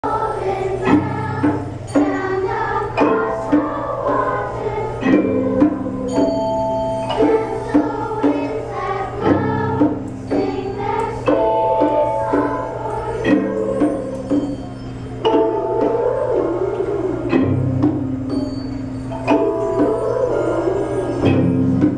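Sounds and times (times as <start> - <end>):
children's choir singing: 0.0 - 21.9
instrumental ensemble playing: 0.0 - 21.9.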